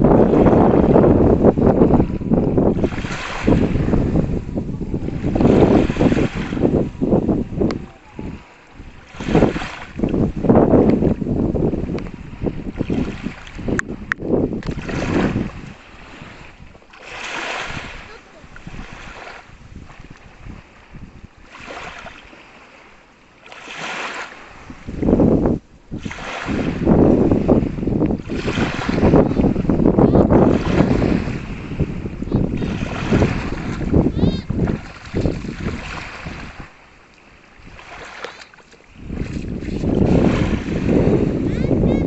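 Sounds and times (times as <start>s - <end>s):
waves washing onto sandy beach: 0.0s - 42.0s.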